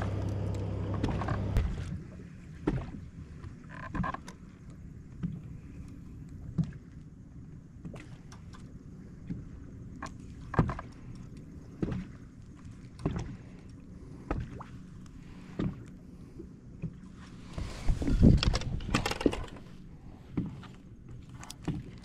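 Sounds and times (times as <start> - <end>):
boat low steady hum: 0.0 - 22.0.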